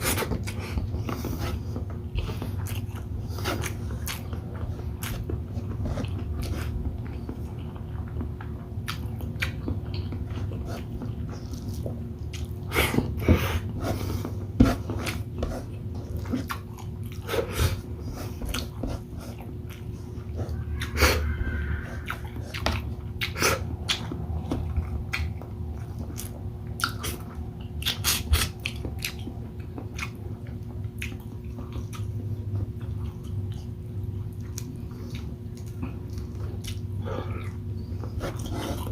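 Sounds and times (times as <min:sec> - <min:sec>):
low steady hum: 0:00.0 - 0:38.9
wet chewing: 0:00.0 - 0:38.9.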